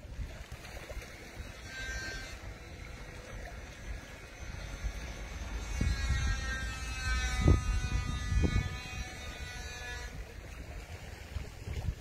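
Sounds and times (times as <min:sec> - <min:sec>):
small motor whine: 0:01.0 - 0:10.7.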